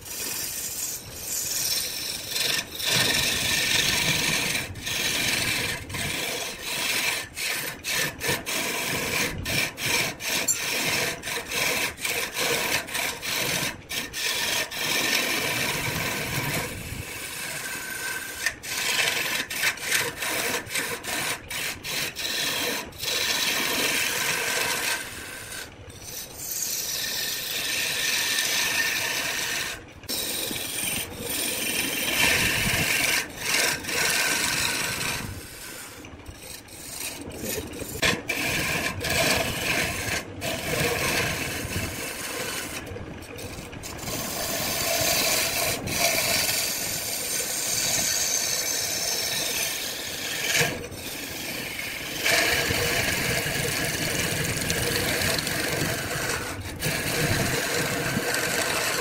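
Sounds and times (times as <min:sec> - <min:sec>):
chisel scraping wood on lathe: 0:00.0 - 0:59.0.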